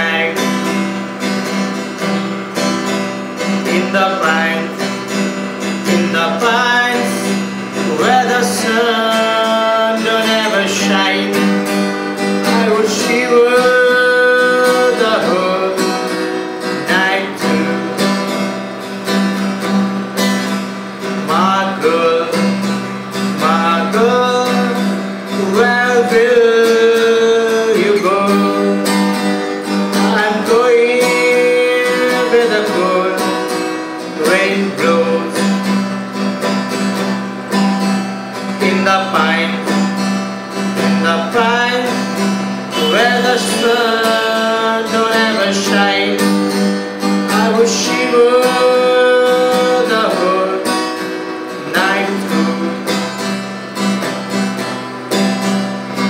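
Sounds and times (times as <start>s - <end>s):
man singing: 0.0s - 1.0s, 3.3s - 18.6s, 21.0s - 35.8s, 38.4s - 54.4s
acoustic guitar strumming: 0.0s - 56.0s.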